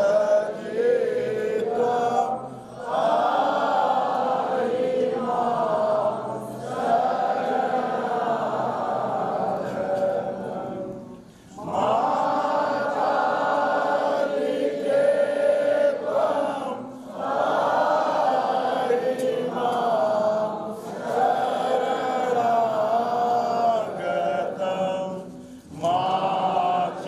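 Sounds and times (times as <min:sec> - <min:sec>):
voices chanting a mantra: 0:00.0 - 0:27.0.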